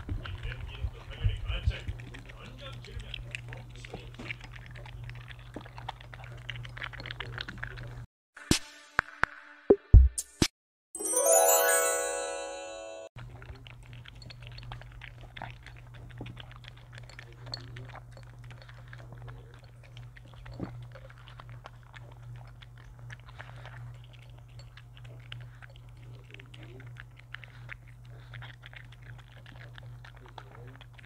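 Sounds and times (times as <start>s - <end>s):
dog crunching dry kibble: 0.0s - 8.0s, 13.2s - 31.0s.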